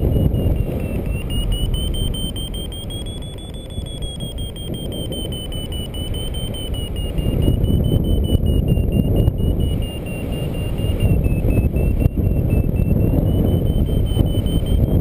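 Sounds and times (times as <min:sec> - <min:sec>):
high-pitched variometer tone: 0:00.0 - 0:15.0
wind rumble on microphone: 0:00.0 - 0:15.0.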